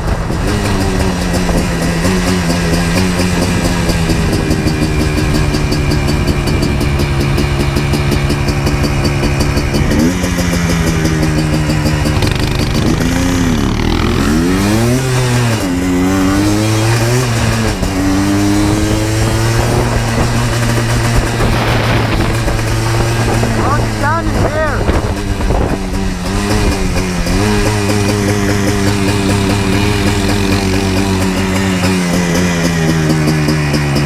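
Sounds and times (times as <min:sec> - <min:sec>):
quad engine revving: 0:00.0 - 0:34.0.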